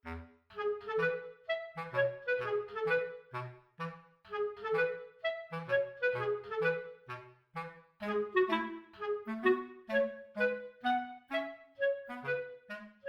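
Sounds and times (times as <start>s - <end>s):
light bouncy tune: 0.0s - 13.0s.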